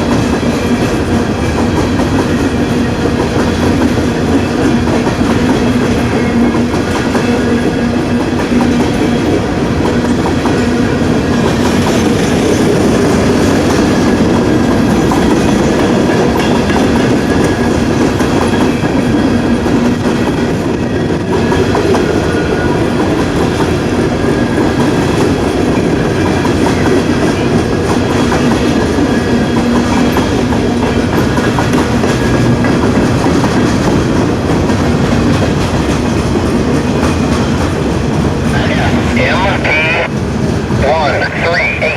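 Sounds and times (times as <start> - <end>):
train wheels clicking over rails: 0.0 - 39.2.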